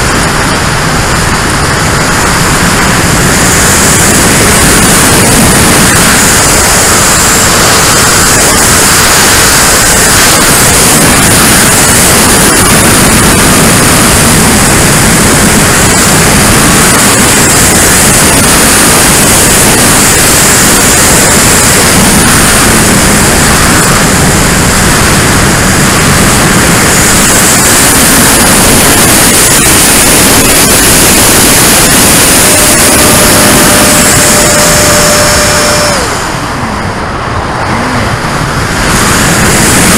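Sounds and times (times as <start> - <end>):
rushing airflow and fan hiss: 0.0 - 39.9
steady tone: 0.0 - 39.9.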